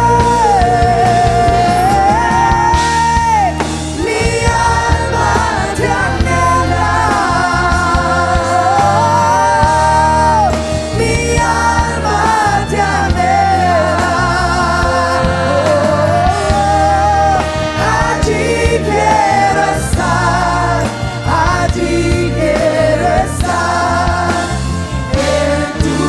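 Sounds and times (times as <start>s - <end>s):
steady bass: 0.0s - 26.0s
worship band and singers: 0.0s - 26.0s.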